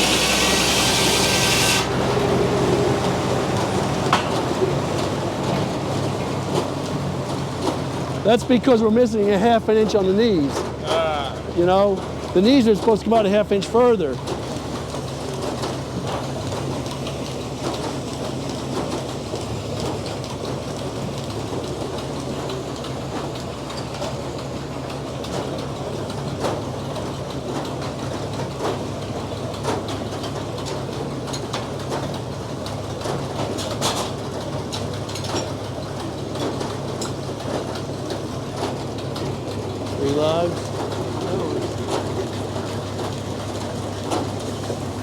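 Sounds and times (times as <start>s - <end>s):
knocks and clatter from mill: 0.0s - 45.0s
sawmill power unit drone: 0.0s - 45.0s.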